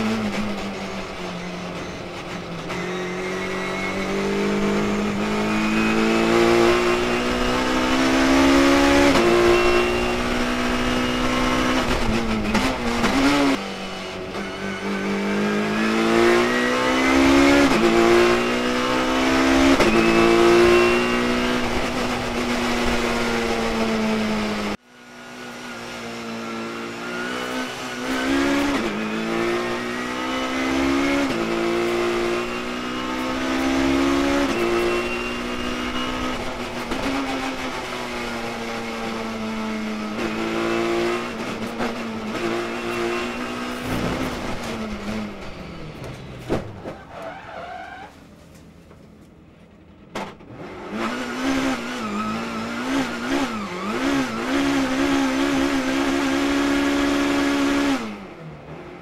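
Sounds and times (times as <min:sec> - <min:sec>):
race car engine revving: 0:02.2 - 0:24.8, 0:25.6 - 0:47.5, 0:50.2 - 0:59.0.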